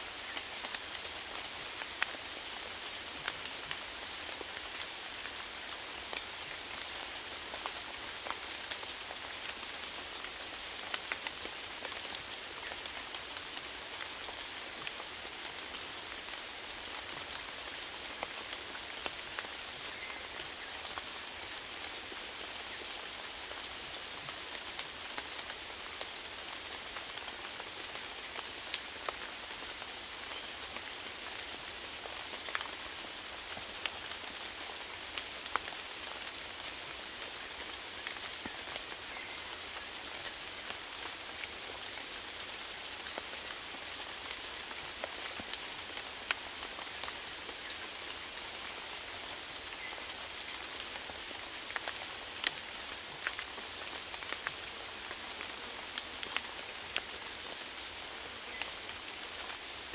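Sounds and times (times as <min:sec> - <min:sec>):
raindrops ticking on surface: 0:00.1 - 0:59.9.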